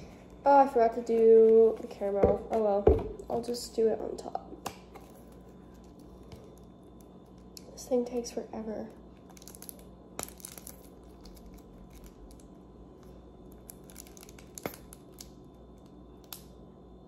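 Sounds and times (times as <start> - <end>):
low room tone hum: 0.0 - 17.0.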